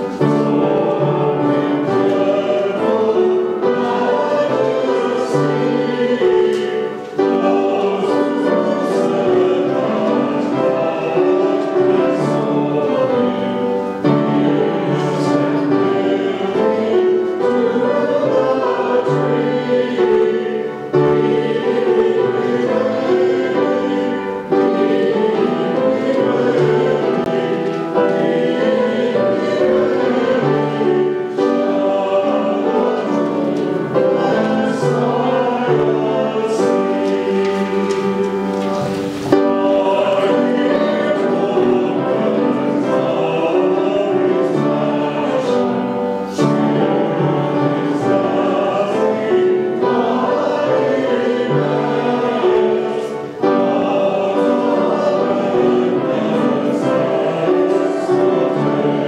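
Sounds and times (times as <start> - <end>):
group singing a hymn: 0.0 - 59.0.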